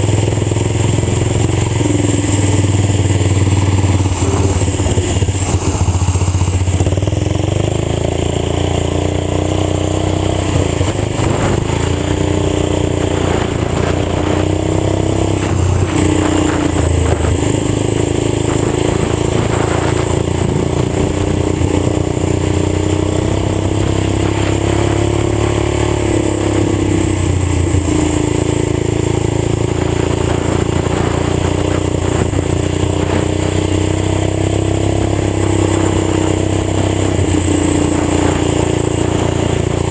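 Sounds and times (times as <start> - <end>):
unmuffled tractor engine: 0.0 - 39.9.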